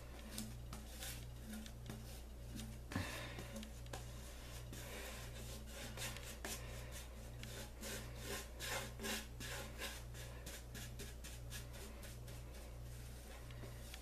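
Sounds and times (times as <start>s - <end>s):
paintbrush strokes on wood: 0.0s - 14.0s.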